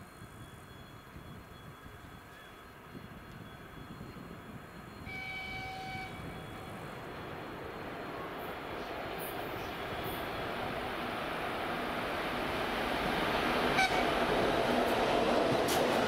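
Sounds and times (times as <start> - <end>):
diesel locomotive approaching: 0.0 - 16.0.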